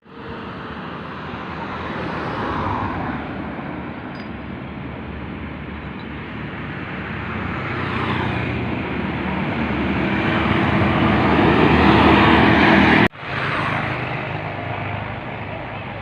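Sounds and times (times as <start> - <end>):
motor vehicle approaching: 0.0 - 16.0.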